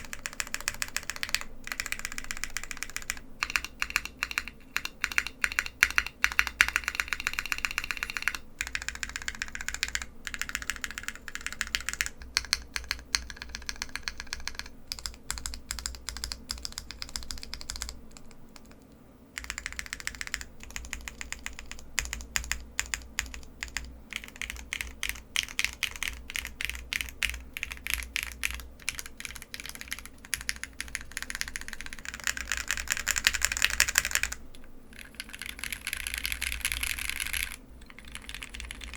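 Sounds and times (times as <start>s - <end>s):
mechanical keyboard typing clacks: 0.0s - 18.8s, 19.4s - 38.9s.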